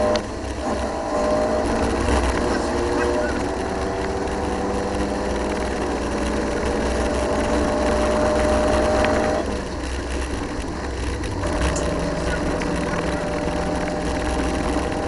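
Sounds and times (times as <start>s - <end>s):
car engine revving: 0.0s - 15.0s
low road rumble: 0.0s - 15.0s.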